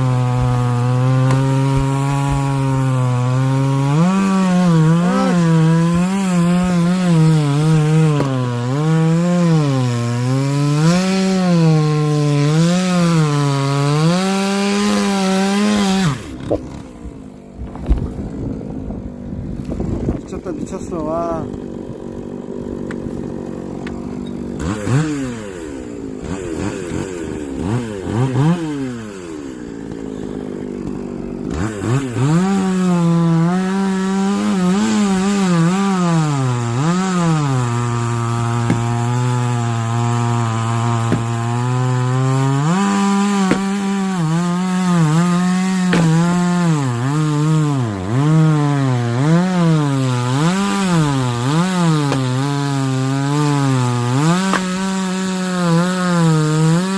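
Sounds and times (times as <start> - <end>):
chainsaw cutting through log: 0.0 - 56.9.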